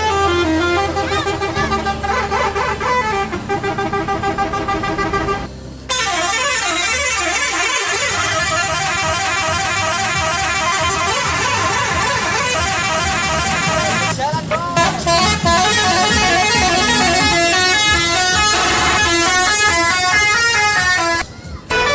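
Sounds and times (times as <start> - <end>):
horn playing stepped notes: 0.0 - 21.9.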